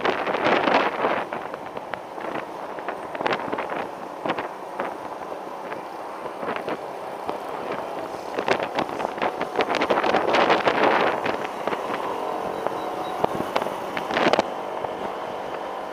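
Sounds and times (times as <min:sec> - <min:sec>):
gusty crackles: 0:00.0 - 0:15.9
motor scooter running: 0:00.0 - 0:15.9
wind rushing over microphone: 0:00.0 - 0:15.9.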